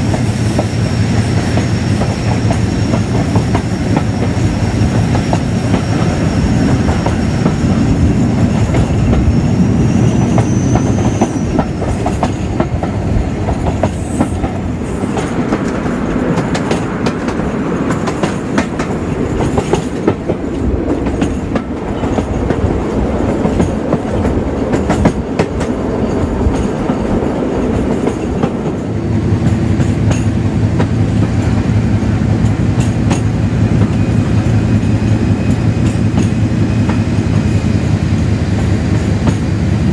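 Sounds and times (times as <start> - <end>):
diesel locomotive engine running: 0.0 - 39.9
train wheels clicking over rail joints: 0.0 - 39.9.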